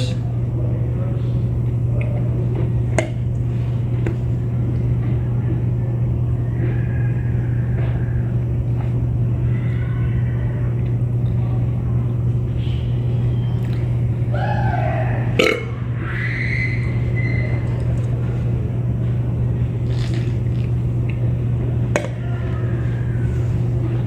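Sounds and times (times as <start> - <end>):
low rumbling drone: 0.0 - 24.0.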